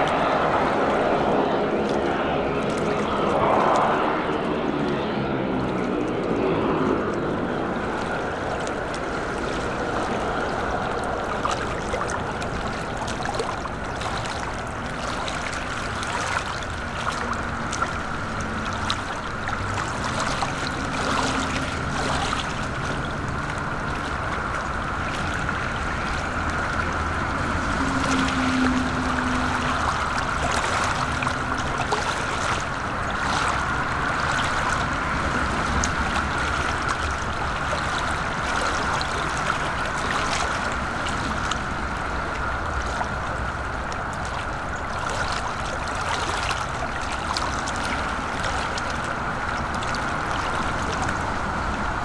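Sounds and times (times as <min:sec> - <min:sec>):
high turbine whine: 0:00.0 - 0:52.0
propeller hum: 0:00.0 - 0:52.0
water lapping and splashing: 0:00.0 - 0:52.0.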